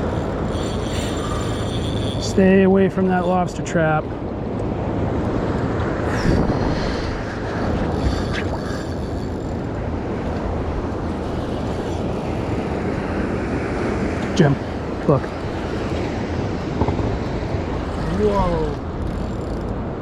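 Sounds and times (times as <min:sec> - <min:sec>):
sea noise: 0:00.0 - 0:20.0
wind rush on microphone: 0:00.0 - 0:20.0.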